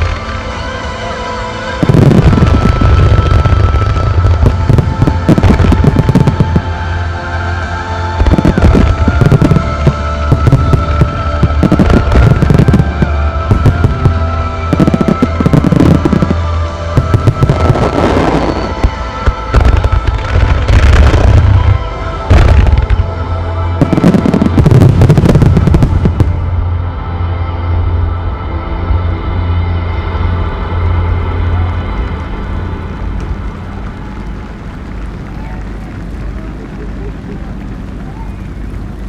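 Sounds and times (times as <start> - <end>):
music with held tones: 0.0 - 39.0
fireworks booming and crackling: 1.8 - 7.0, 8.1 - 23.0, 23.8 - 26.6, 30.3 - 39.0.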